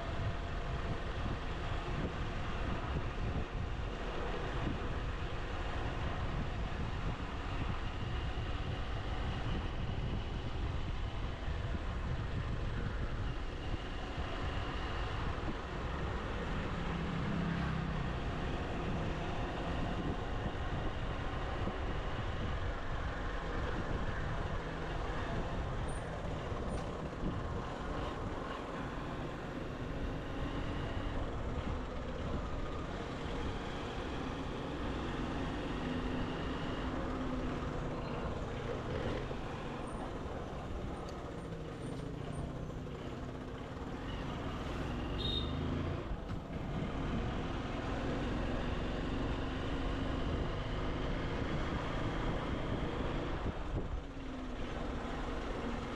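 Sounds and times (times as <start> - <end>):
road and wind noise: 0.0 - 55.9.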